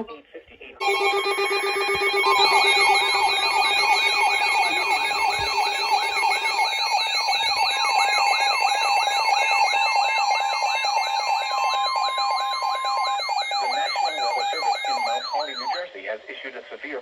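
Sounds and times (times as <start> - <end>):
steady and beeping alert tones: 0.8 - 15.8
warbling alarm sweep: 0.8 - 15.8.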